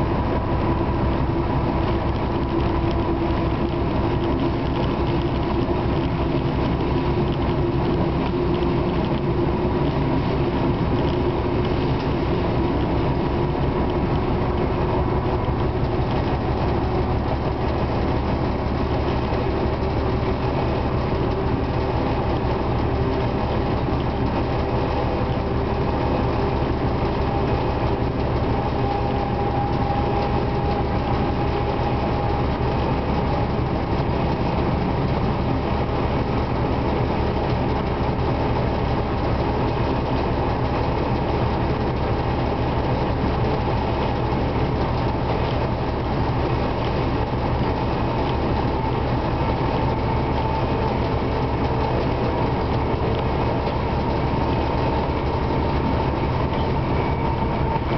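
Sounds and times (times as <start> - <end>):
diesel engine running: 0.0 - 57.9
wheels rolling on rails: 0.0 - 57.9.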